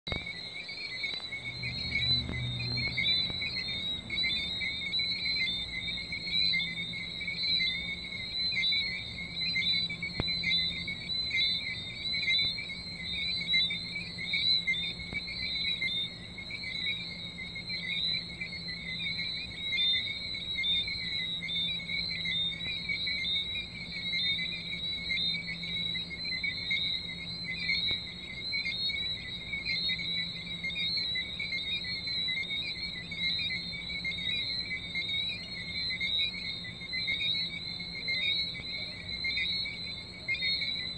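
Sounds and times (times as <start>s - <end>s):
tree frogs chirping: 0.0s - 40.9s.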